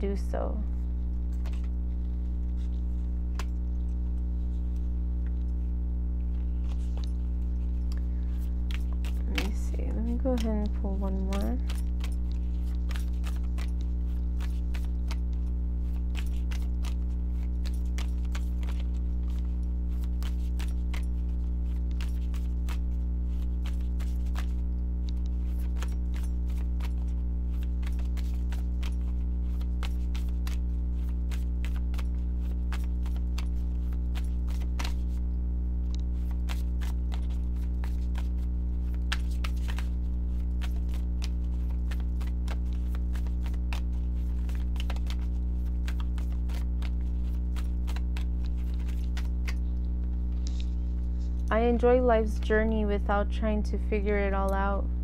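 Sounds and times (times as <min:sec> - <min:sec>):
low electrical hum: 0:00.0 - 0:55.0
cards being shuffled: 0:01.3 - 0:05.4, 0:06.3 - 0:35.2, 0:35.8 - 0:51.5.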